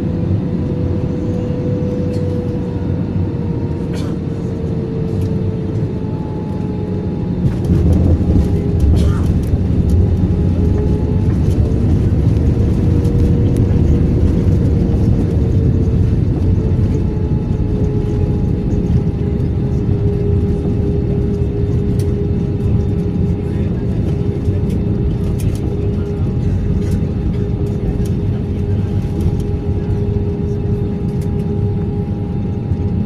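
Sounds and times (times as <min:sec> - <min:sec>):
jet engine rumble in cabin: 0:00.0 - 0:33.0
jet engine whine: 0:00.0 - 0:33.0.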